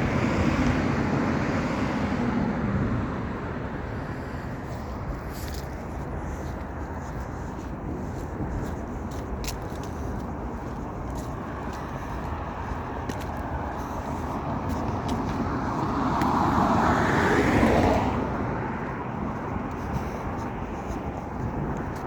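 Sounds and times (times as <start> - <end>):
vehicle passing by: 0.0 - 8.7, 9.5 - 22.0.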